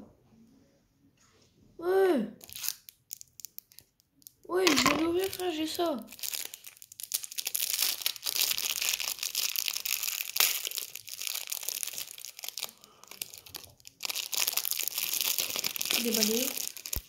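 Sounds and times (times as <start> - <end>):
plastic candy wrapper crinkling: 2.4 - 17.0.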